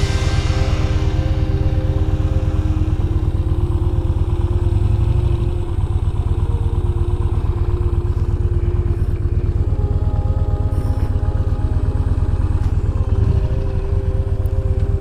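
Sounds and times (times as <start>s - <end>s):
motorcycle engine low pulsing: 0.0s - 15.0s.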